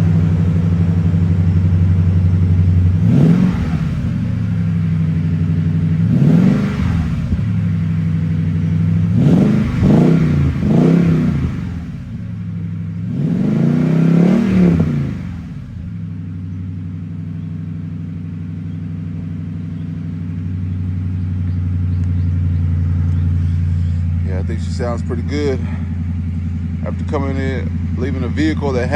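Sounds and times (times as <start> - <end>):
engine revving and idling: 0.0 - 28.9.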